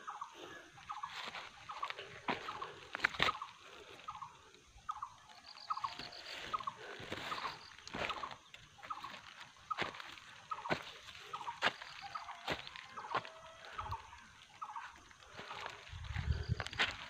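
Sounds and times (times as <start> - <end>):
bird chirping: 0.0 - 17.0
footsteps crunching through undergrowth: 0.1 - 17.0.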